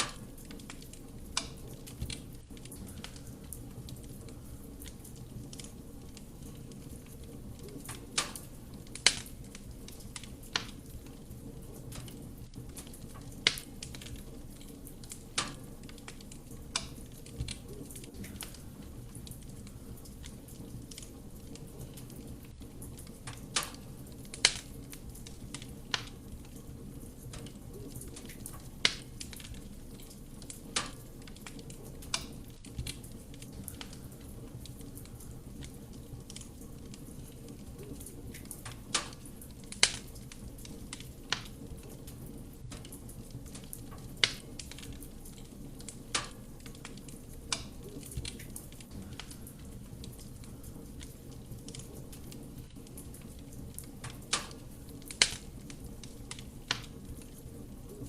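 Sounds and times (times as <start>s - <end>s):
burning wood crackling and popping: 0.0s - 58.0s
wood fire burning: 0.0s - 58.0s.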